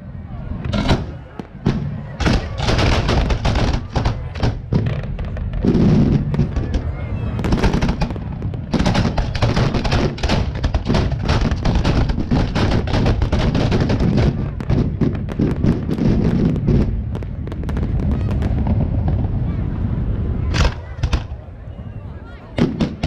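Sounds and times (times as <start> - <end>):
fireworks bangs and cracks: 0.6 - 21.5, 22.6 - 23.0.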